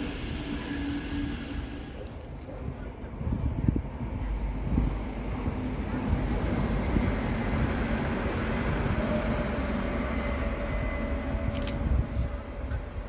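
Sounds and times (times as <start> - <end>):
passenger train rumbling past: 0.0 - 13.0.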